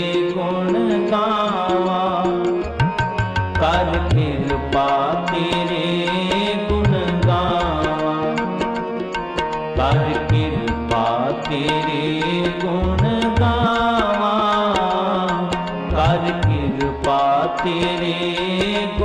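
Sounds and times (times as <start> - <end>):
tabla playing: 0.0 - 19.0.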